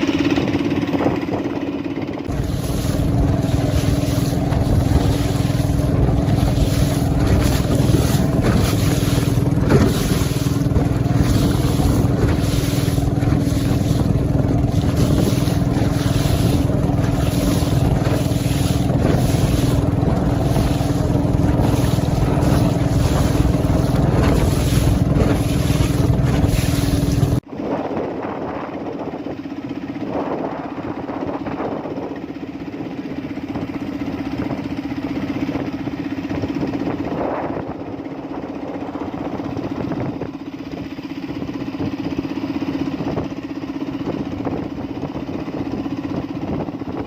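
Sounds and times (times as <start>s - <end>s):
engine running: 0.0s - 47.0s
wind buffeting microphone: 0.0s - 47.0s.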